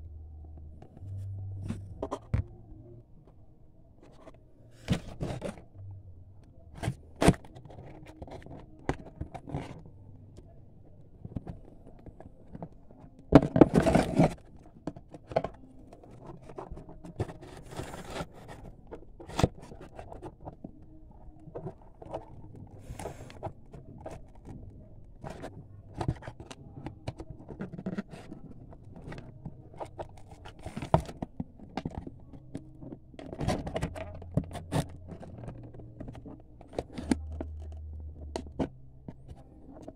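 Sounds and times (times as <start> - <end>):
cardboard scraping and scratching: 0.5 - 2.6, 4.0 - 5.8, 6.7 - 9.9, 11.2 - 39.9.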